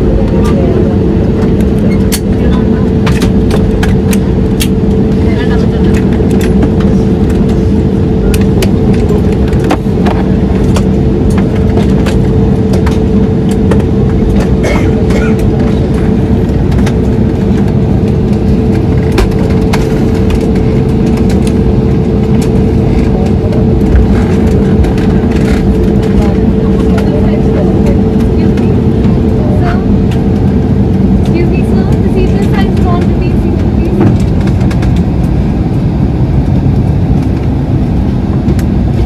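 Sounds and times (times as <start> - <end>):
vehicle engine drone: 0.0 - 39.0.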